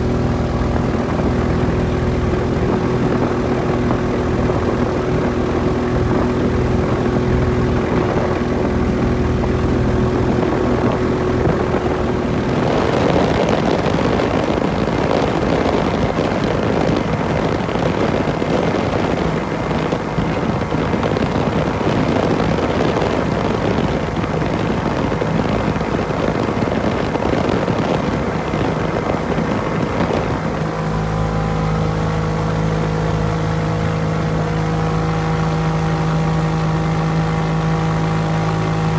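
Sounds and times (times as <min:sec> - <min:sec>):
ultralight aircraft engine and propeller: 0:00.0 - 0:38.9.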